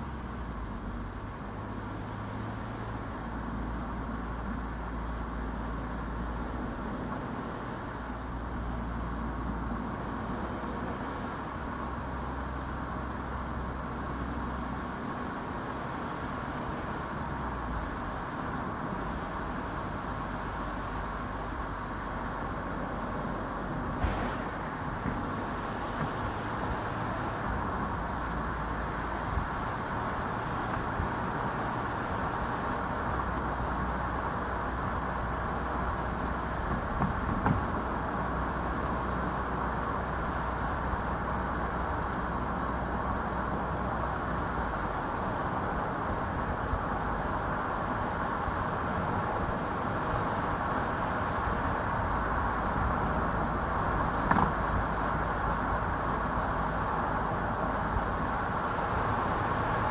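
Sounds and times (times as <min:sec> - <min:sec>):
car driving on road: 0:00.0 - 0:59.9.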